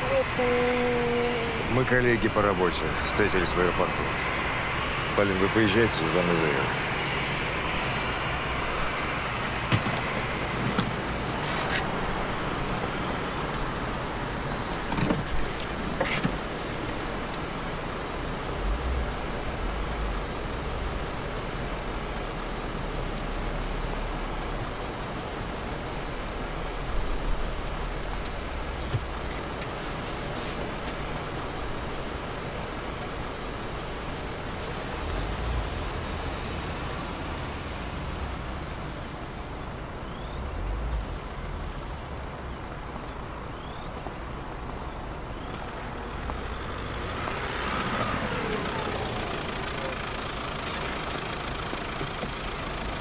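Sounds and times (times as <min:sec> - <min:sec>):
traffic noise: 0:00.0 - 0:53.0.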